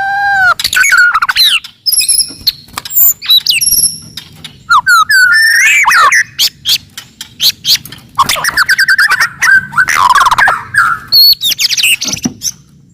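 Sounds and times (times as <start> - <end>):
songbird whistling and clicking: 0.4 - 12.7.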